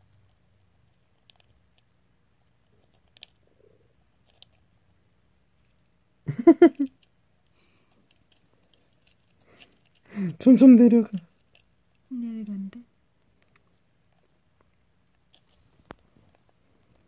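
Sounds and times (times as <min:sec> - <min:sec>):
hamster nibbling food: 0:00.0 - 0:06.2, 0:06.8 - 0:17.0.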